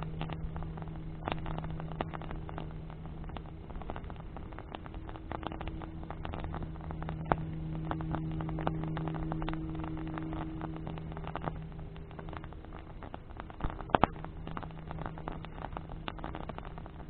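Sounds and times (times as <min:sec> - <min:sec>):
bonfire crackling and popping: 0:00.0 - 0:17.0
steady low hum: 0:00.0 - 0:17.0.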